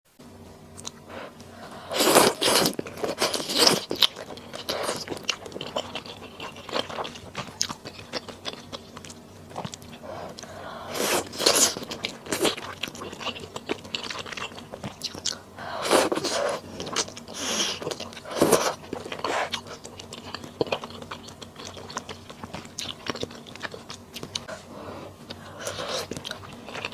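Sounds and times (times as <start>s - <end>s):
person biting and chewing: 1.9s - 24.5s.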